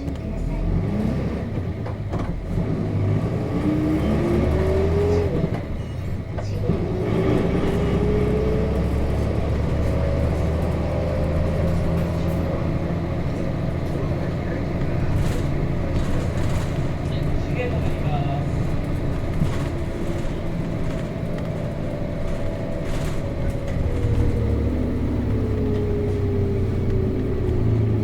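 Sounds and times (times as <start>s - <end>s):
bus diesel engine accelerating: 0.0s - 28.0s.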